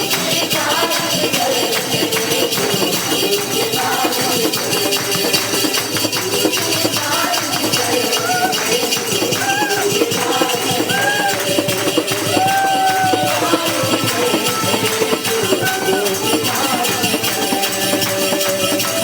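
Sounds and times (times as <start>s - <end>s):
rattling hand percussion: 0.0s - 19.0s
worship song melody: 0.0s - 19.0s.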